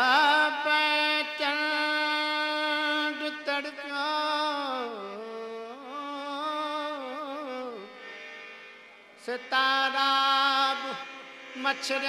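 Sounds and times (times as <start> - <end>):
ghazal music with melodic line: 0.0 - 12.0.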